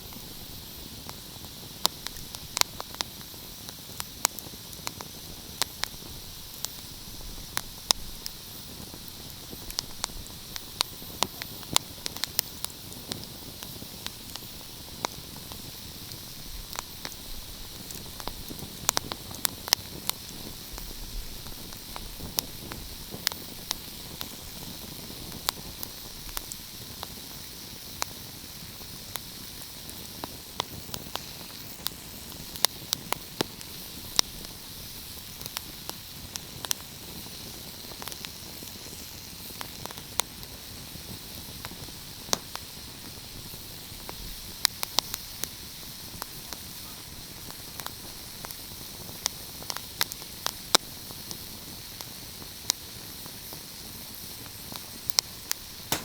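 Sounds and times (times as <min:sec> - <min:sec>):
fire crackling: 0:00.0 - 0:56.0
steady hiss: 0:00.0 - 0:56.0.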